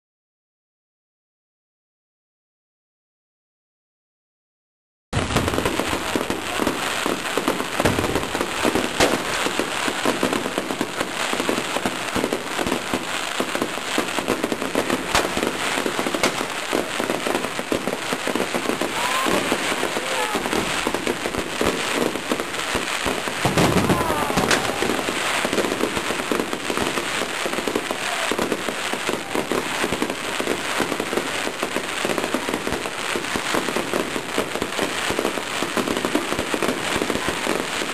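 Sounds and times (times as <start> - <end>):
fireworks crackling bangs: 5.2 - 37.9.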